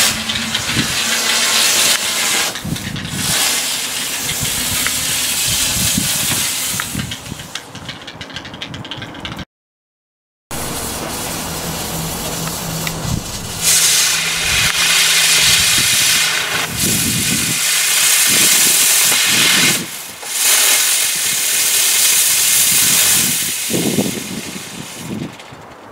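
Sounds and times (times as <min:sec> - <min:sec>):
firework hissing: 0:00.0 - 0:07.6, 0:10.5 - 0:25.5.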